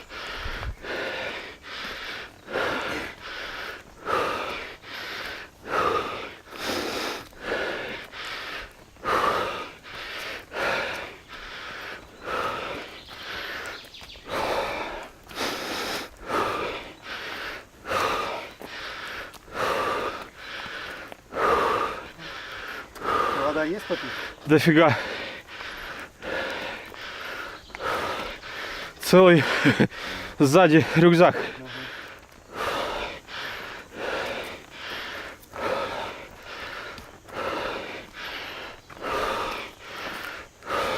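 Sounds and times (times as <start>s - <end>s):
person breathing heavily: 0.0s - 40.9s.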